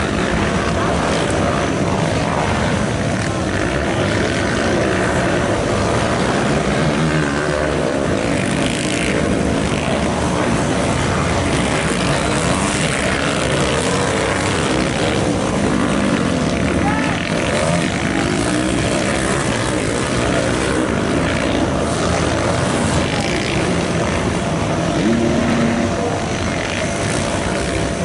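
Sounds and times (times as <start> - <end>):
dirt-bike engines revving: 0.0 - 28.0.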